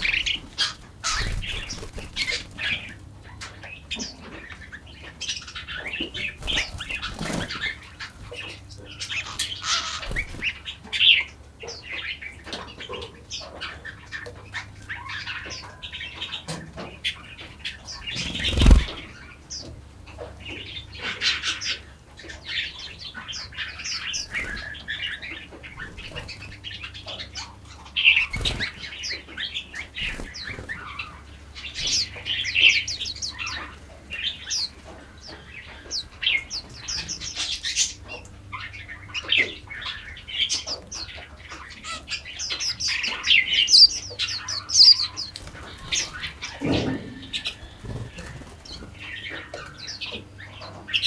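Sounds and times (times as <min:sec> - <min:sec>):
songbirds chirping and singing: 0:00.0 - 0:51.0.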